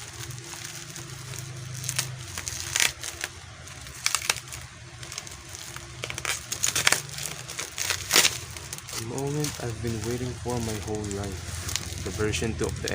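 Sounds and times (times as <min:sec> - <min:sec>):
plastic packaging crinkling: 0:00.0 - 0:12.9
steady low hum: 0:00.0 - 0:12.9.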